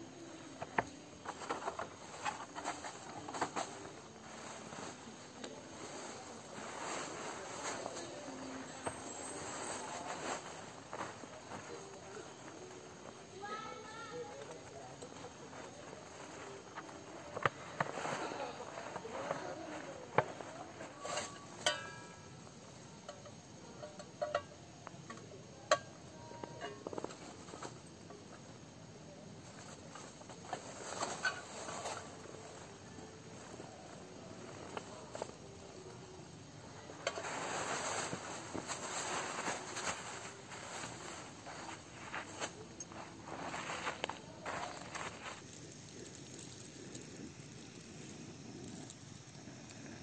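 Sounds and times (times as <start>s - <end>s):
soft rustle: 0.0s - 50.0s.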